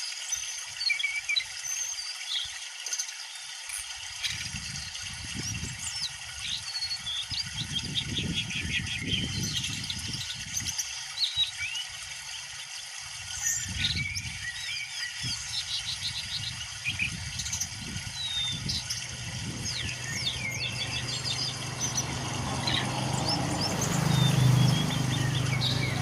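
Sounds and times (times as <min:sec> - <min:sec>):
songbirds chirping and whistling: 0:00.0 - 0:03.3, 0:04.2 - 0:26.0.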